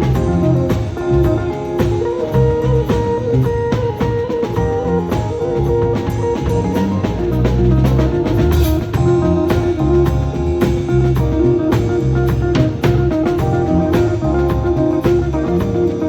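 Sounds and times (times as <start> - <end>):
bass guitar: 0.0 - 16.0
drum kit beat: 0.0 - 16.0
electric guitar: 0.0 - 16.0.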